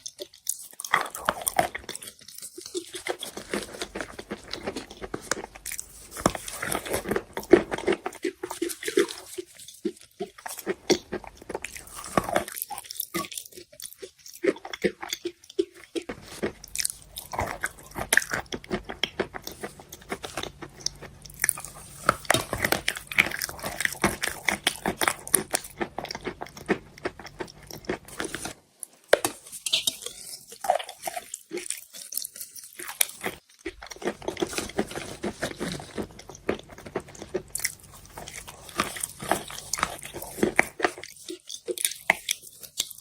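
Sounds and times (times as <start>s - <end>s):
chewing chalk crunches: 0.0s - 43.0s.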